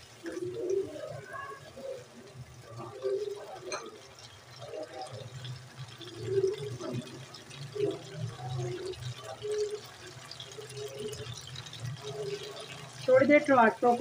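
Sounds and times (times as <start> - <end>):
tomatoes bubbling and popping in oil: 0.0 - 14.0.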